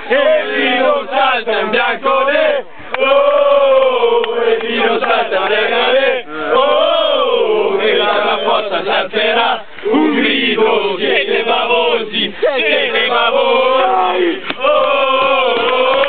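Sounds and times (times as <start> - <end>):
group chanting a fan song: 0.0 - 16.0.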